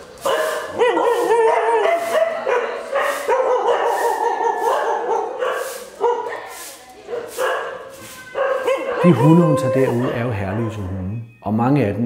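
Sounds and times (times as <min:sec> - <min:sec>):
dogs crying and whining: 0:00.2 - 0:06.5, 0:07.4 - 0:11.2
dogs barking: 0:00.2 - 0:11.2.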